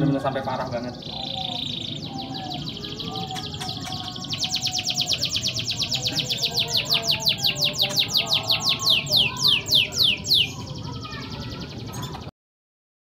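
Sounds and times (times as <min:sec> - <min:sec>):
canary singing a trill: 0:00.0 - 0:12.3.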